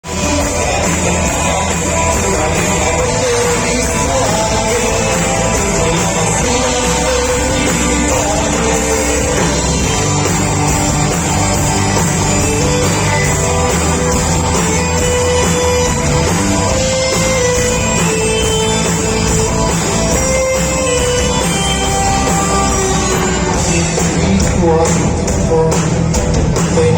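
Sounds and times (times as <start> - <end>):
rock band playing: 0.0 - 26.9.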